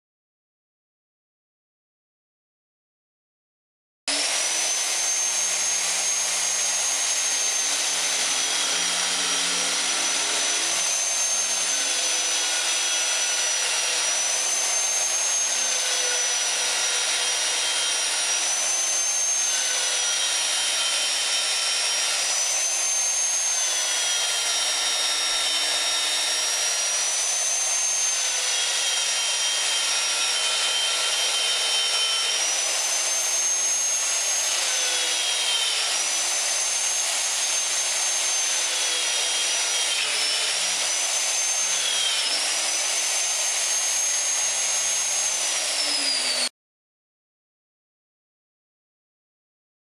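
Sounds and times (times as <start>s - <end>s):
drill press motor whining: 4.1s - 46.5s.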